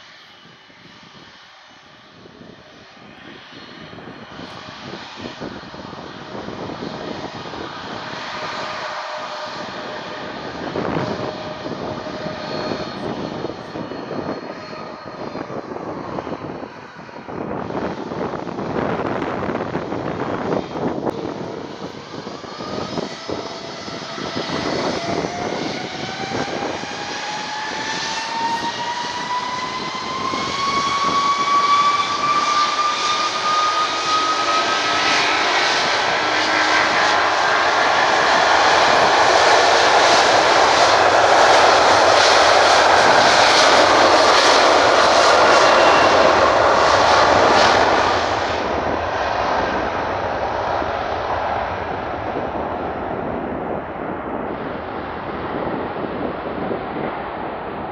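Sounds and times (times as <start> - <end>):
jet engines spooling up: 0.0 - 57.9.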